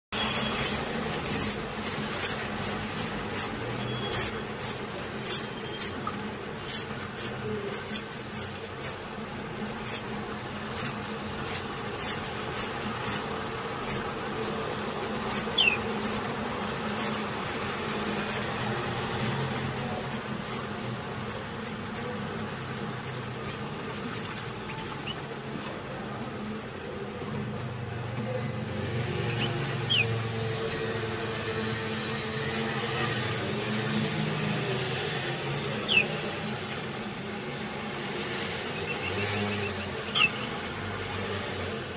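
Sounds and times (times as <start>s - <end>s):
nestlings cheeping: 0.1s - 34.2s.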